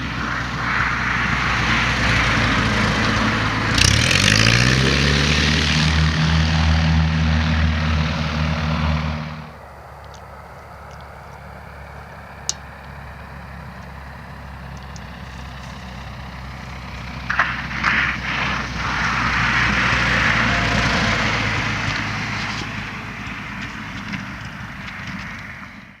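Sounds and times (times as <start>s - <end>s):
piston aircraft engine running: 0.0s - 26.0s
rushing noise: 0.0s - 26.0s.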